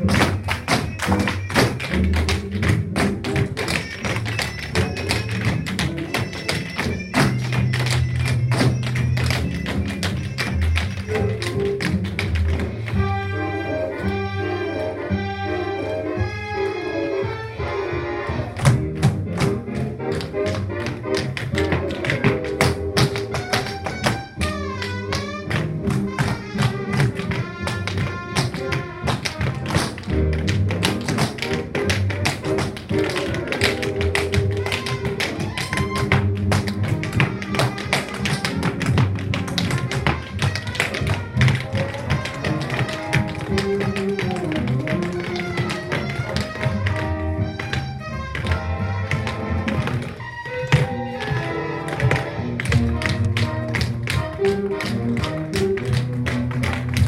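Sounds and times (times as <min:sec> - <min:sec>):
tap shoes striking hard floor: 0:00.0 - 0:12.9, 0:18.4 - 0:57.0.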